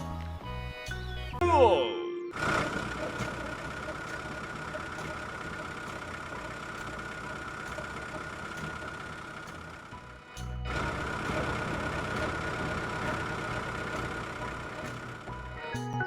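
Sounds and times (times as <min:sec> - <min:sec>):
small motor running with whine: 0:02.4 - 0:15.8.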